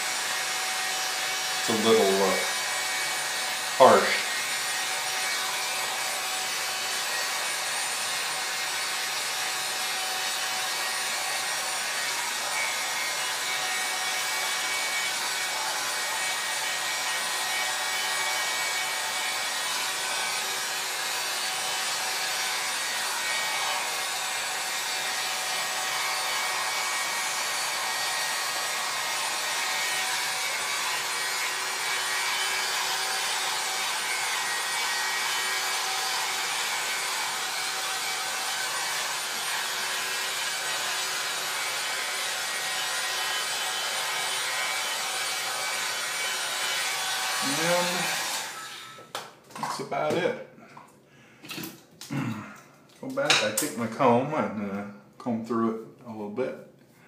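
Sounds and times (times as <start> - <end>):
hot-air styling brush running: 0.0 - 50.1.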